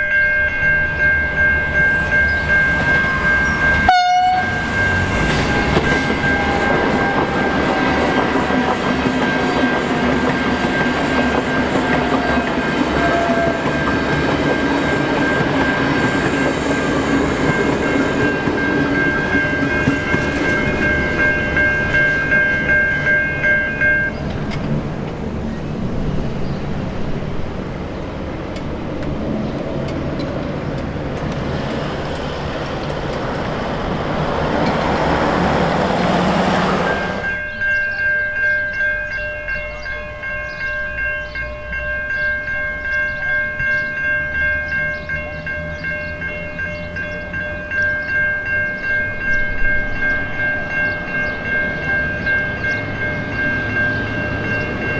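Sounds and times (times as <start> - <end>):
level crossing warning bells: 0.0 - 24.3, 29.8 - 54.9
passing train rushing: 0.0 - 54.9.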